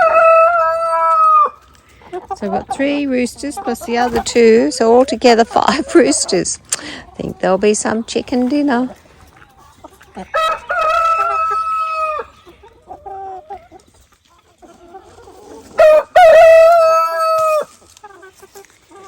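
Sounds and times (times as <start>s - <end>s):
chicken calls: 0.0s - 19.0s.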